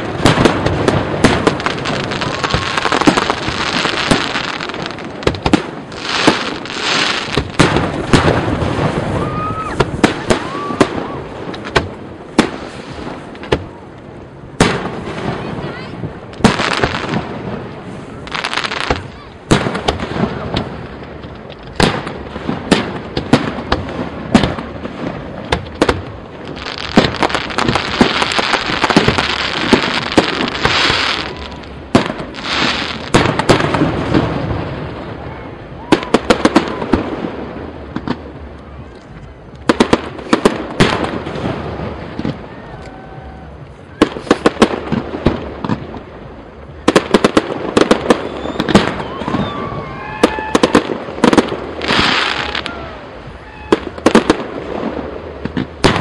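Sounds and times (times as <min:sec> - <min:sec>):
firework bangs: 0:00.0 - 0:56.0
firework crackling: 0:00.0 - 0:56.0.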